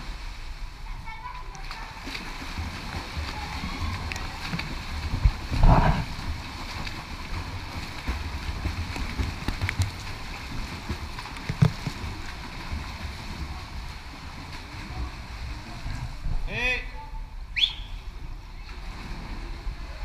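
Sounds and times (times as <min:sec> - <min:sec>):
swimmers splashing water: 0:00.0 - 0:20.0.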